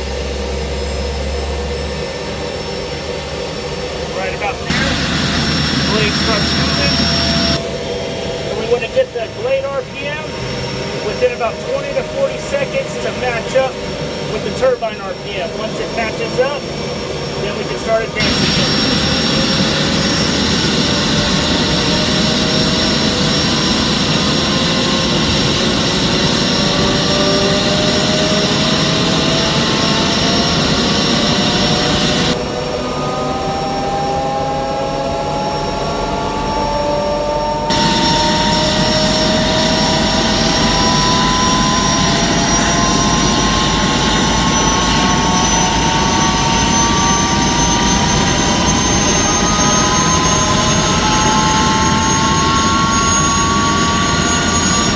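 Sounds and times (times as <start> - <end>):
helicopter turbine whine: 0.0 - 54.9
helicopter rotor spinning up: 2.5 - 32.4, 37.6 - 54.9.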